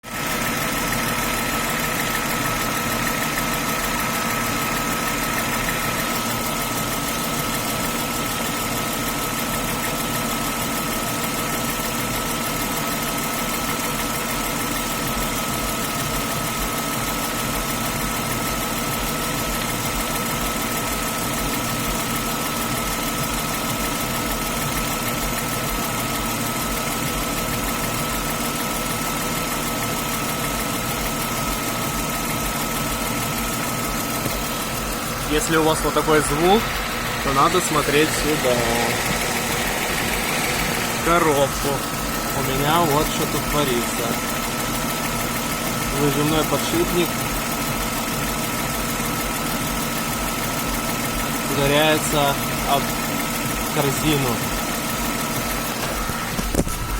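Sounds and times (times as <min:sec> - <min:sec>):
car engine idling: 0:00.0 - 0:56.9
engine knocking: 0:00.0 - 0:56.9.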